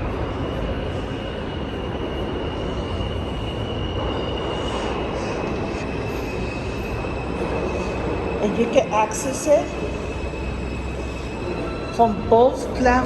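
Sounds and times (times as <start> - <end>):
high-pitched whine: 0.0 - 13.0
subway train rumble: 0.0 - 13.0.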